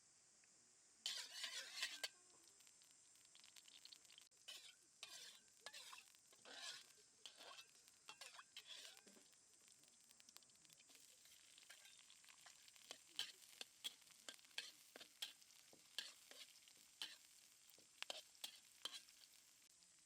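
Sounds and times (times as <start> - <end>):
soft steady hiss: 0.0 - 20.0.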